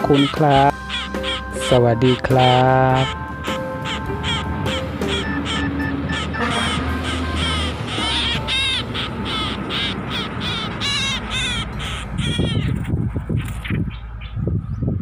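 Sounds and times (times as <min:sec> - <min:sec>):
songbird distress calls: 0:00.0 - 0:14.8.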